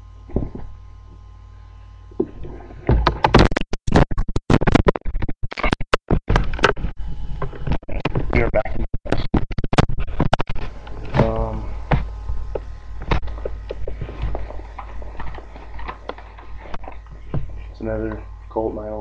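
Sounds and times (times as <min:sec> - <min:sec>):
steady low hum: 0:00.0 - 0:03.5, 0:06.3 - 0:19.0.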